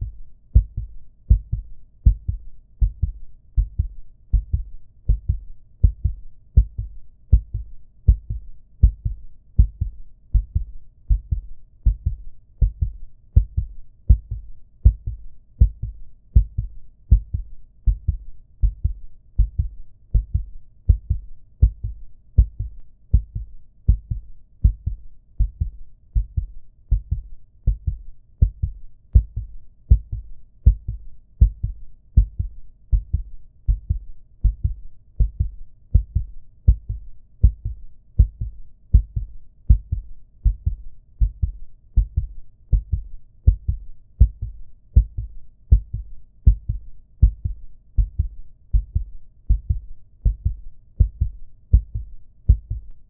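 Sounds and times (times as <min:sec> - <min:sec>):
heartbeat thuds: 0:00.0 - 0:53.0.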